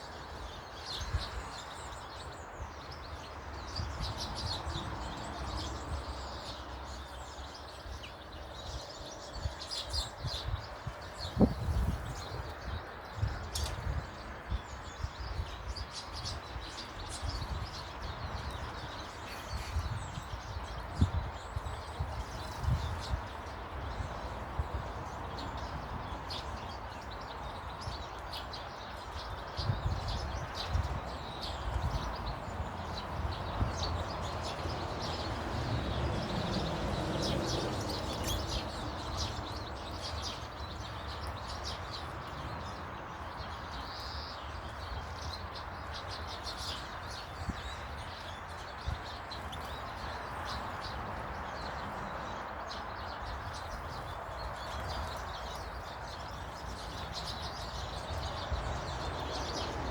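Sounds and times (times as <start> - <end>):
small birds chirping and tweeting: 0.0 - 59.9.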